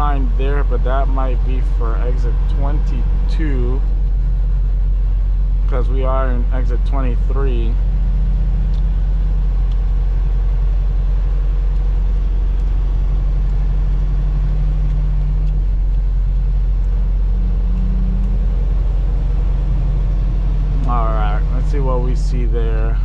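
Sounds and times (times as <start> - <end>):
road noise: 0.0 - 23.0
truck diesel engine drone: 0.0 - 23.0.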